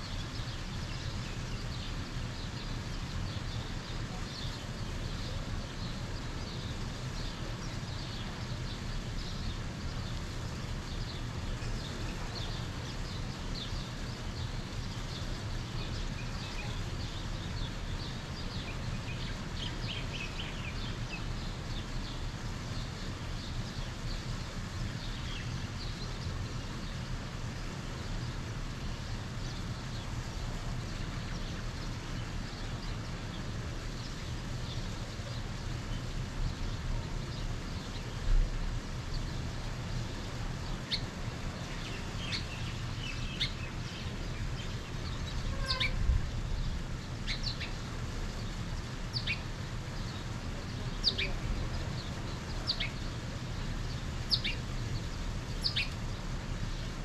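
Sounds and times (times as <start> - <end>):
birds chirping: 0.0 - 57.0
low outdoor rumble: 0.0 - 57.0.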